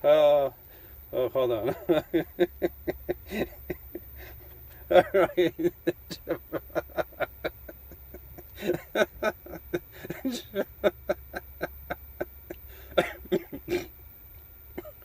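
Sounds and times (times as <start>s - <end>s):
steady low hum: 0.0s - 15.0s
man chuckling: 1.4s - 13.9s, 14.7s - 15.0s.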